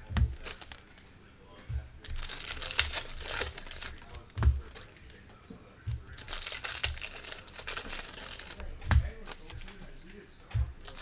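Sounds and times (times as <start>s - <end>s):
foil wrappers crinkling and tearing: 0.0s - 1.0s, 1.8s - 5.3s, 6.0s - 10.2s, 10.8s - 11.0s.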